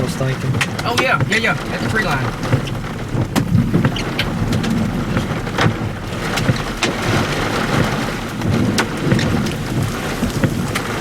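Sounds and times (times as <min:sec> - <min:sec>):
heavy rain beating on a vehicle: 0:00.0 - 0:11.0.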